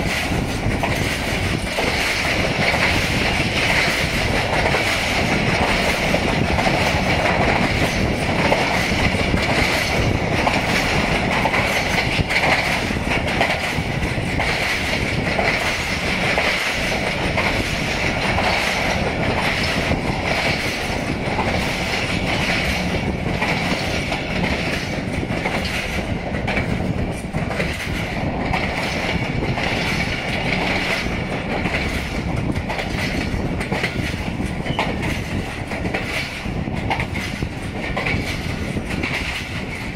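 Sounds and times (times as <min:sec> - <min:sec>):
train coach rattling: 0:00.0 - 0:39.9
train wheels clattering over rail joints: 0:00.0 - 0:39.9.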